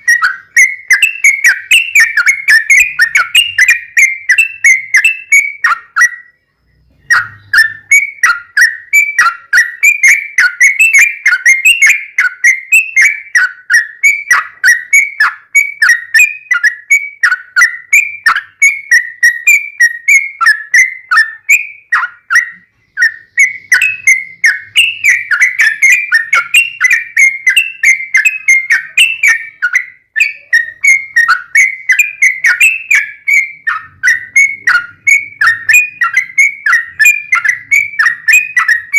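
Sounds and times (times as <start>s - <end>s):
bird singing bubbly chirps: 0.0s - 38.9s.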